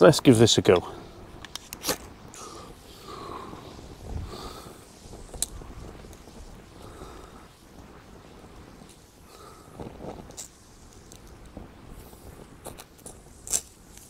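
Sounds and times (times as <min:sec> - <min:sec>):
quiet handling sounds: 0:00.6 - 0:14.0.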